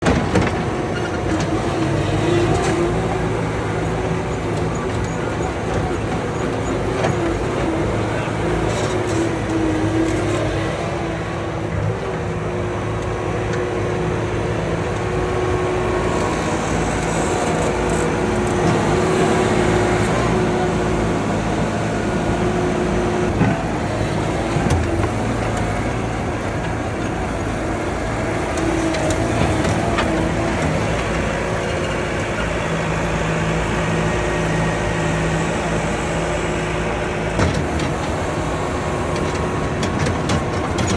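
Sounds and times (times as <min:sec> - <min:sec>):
skid steer loader engine running: 0:00.0 - 0:40.9.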